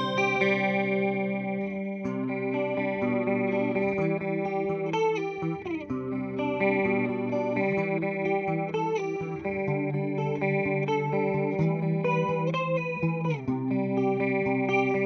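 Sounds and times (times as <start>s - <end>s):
electric guitar chords and notes: 0.0s - 15.0s.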